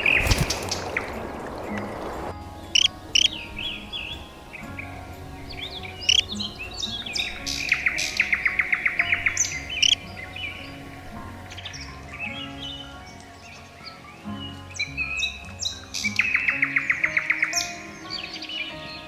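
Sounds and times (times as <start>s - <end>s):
bird trill: 0.0s - 19.0s
soft background music: 0.0s - 19.0s
songbirds chirping: 0.0s - 19.0s.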